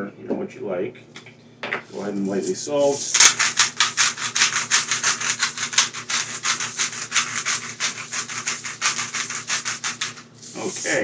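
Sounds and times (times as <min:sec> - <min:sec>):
salt grinder rasping: 0:02.0 - 0:11.0.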